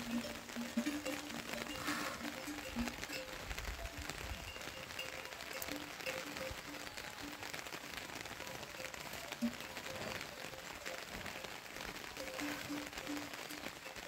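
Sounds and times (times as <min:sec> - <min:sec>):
rain falling on grass and leaves: 0:00.0 - 0:14.0.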